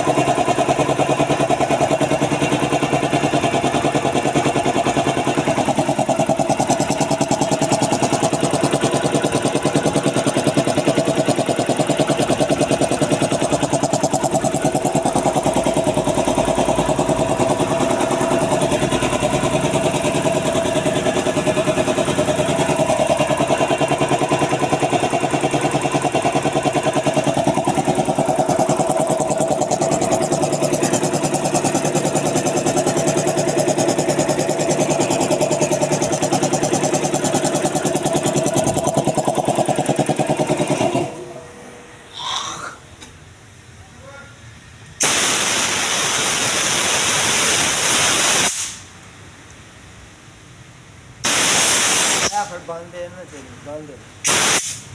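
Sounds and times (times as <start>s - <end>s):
air compressor running: 0.0s - 43.8s, 45.0s - 49.1s, 51.2s - 53.1s, 53.7s - 54.9s.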